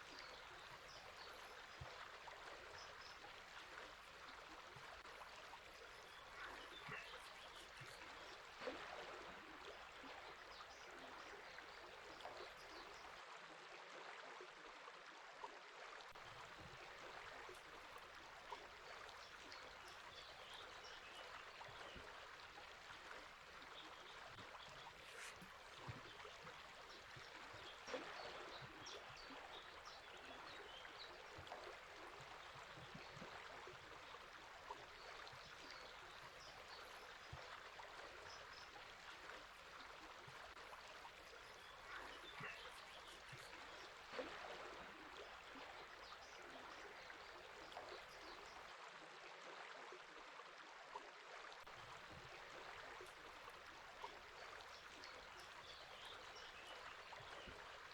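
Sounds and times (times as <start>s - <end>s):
river water burbling: 0.0s - 48.8s, 51.6s - 57.9s.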